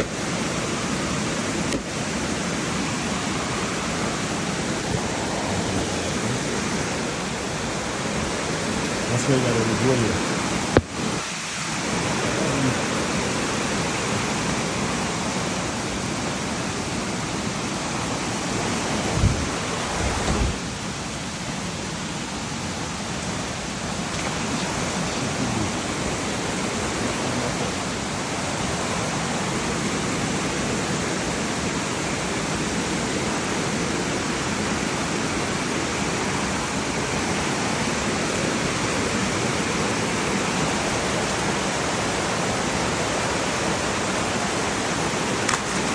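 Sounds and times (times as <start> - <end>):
fast-flowing river rushing: 0.0 - 45.9
rain falling: 0.0 - 45.9.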